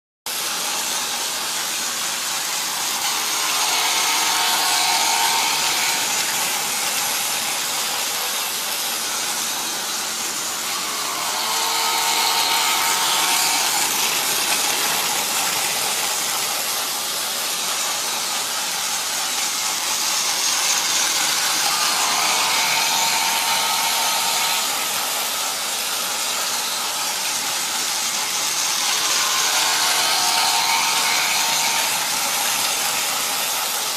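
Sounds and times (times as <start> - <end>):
toy train motor whirring: 0.3 - 33.9
toy train whine: 0.3 - 33.9.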